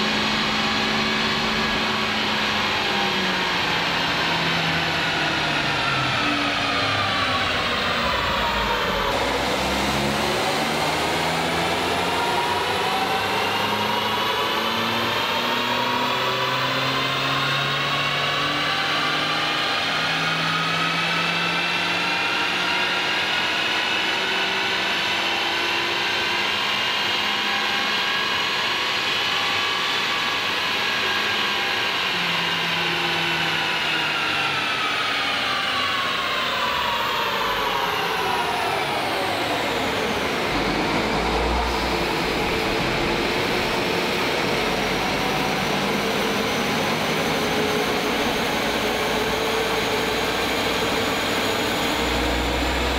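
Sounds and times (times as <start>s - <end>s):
car engine whine on dyno: 0.0s - 52.9s.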